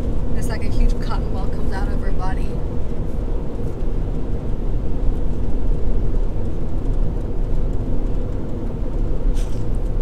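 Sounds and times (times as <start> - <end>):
car road noise rumble: 0.0 - 10.0.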